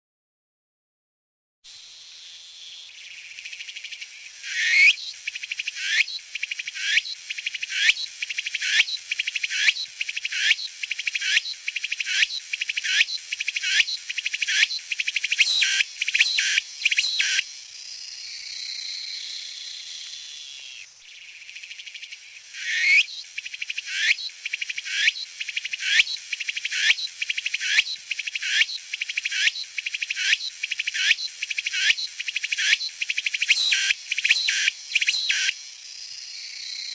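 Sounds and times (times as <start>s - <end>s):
cicada singing: 1.8s - 36.9s.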